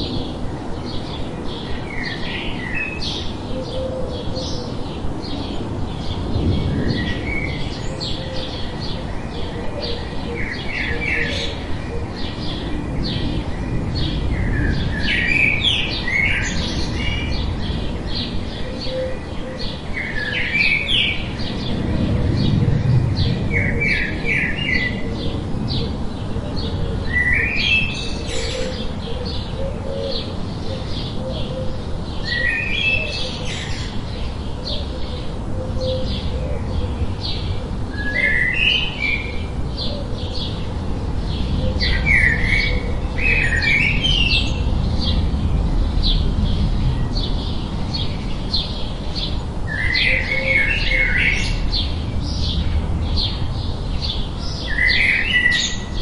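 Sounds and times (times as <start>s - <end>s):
forest birds chirping: 0.0s - 56.0s.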